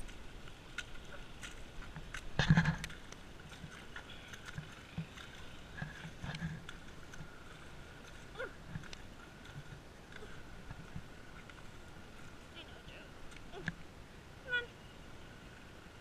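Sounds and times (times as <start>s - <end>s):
footsteps in wet mud: 0.0s - 14.0s
horse hooves squelching in mud: 0.0s - 14.7s.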